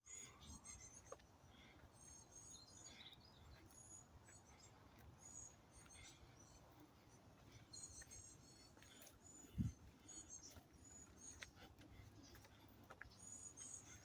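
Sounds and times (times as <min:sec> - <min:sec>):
faint bird chirps: 0:00.1 - 0:14.0.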